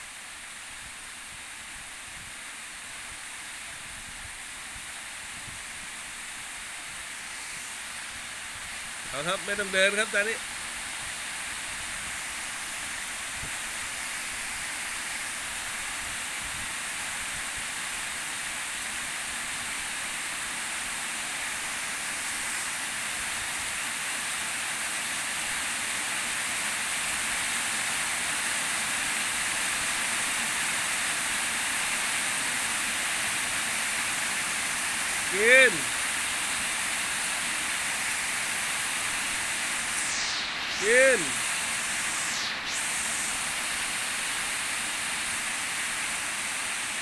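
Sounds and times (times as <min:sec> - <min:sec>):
heavy rain hissing: 0:00.0 - 0:47.0.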